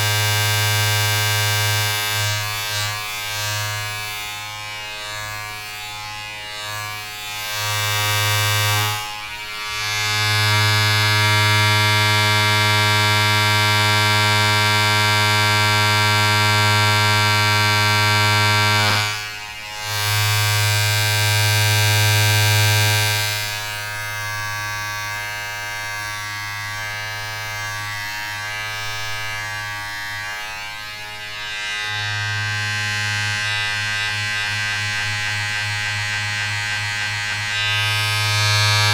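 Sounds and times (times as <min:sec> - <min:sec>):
electric buzz with low hum: 0:00.0 - 0:38.9.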